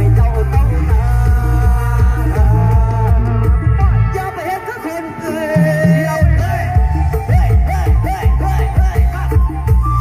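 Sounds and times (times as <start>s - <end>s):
loud music from speakers: 0.0s - 10.0s
man singing through a microphone: 0.0s - 10.0s.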